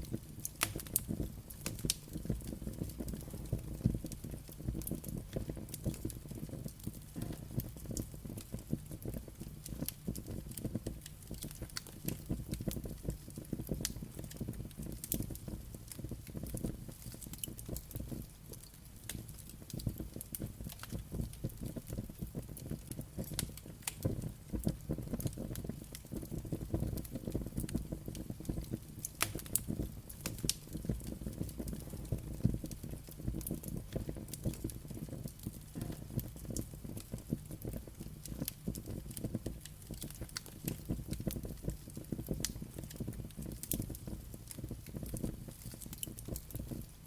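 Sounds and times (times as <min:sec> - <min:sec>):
fire crackles and pops: 0:00.0 - 0:47.0
wood fire rumbling: 0:00.0 - 0:47.0.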